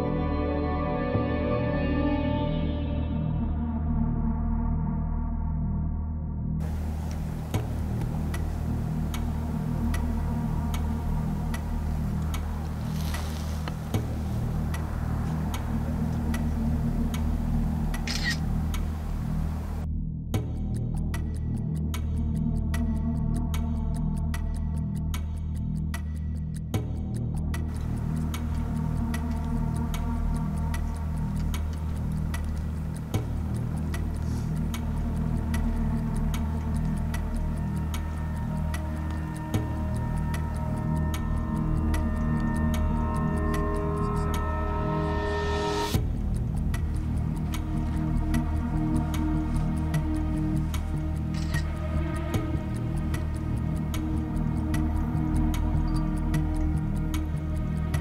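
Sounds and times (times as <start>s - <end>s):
low steady drone: 0.0s - 58.0s
clock-like tick: 6.6s - 58.0s.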